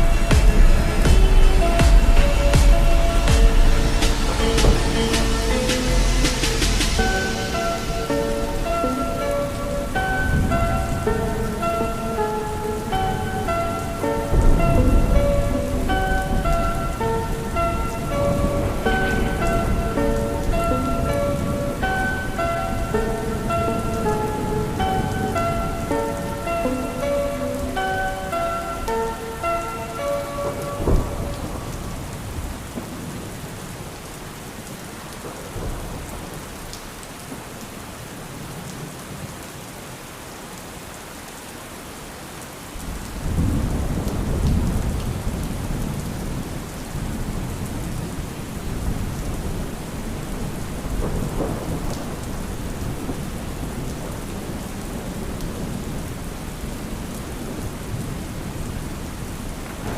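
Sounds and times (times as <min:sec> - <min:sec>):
thunder rumbling: 0:00.0 - 0:34.4, 0:35.2 - 0:37.0, 0:42.8 - 0:59.9
steady rain: 0:00.0 - 0:59.9.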